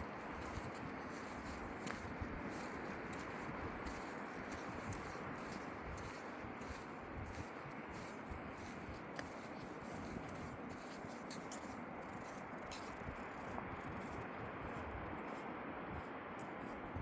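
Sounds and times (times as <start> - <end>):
wind: 0.0 - 17.0
small crunching clicks: 0.4 - 14.8.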